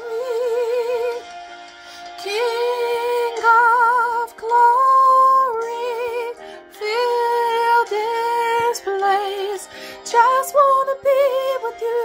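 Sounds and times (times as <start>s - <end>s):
woman singing soprano: 0.0s - 1.3s, 2.1s - 12.0s.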